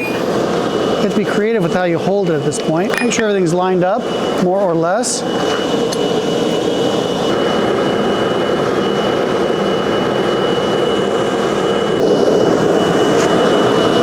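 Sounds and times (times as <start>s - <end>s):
gas burner roaring: 0.0s - 14.0s
high whine: 0.0s - 14.0s.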